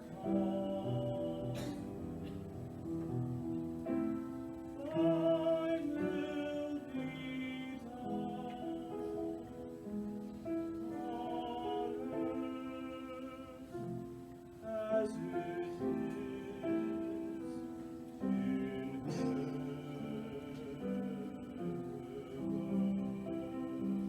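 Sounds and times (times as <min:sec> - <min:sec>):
sacred choir singing: 0:00.0 - 0:02.8, 0:03.8 - 0:24.0.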